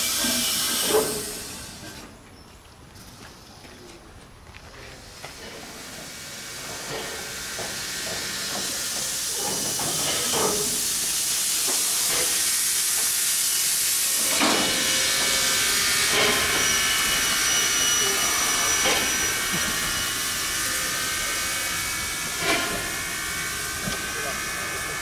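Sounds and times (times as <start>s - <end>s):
locomotive steam hissing: 0.0s - 2.2s, 4.8s - 25.0s.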